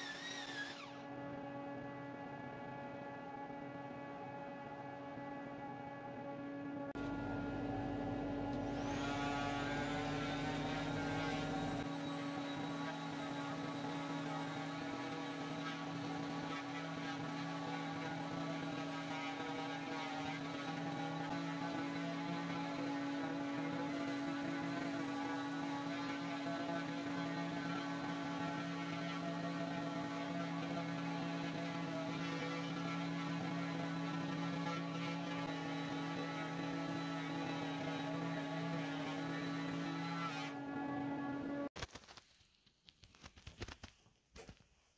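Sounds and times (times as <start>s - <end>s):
orbital sander motor hum: 0.0s - 1.6s, 7.0s - 41.7s.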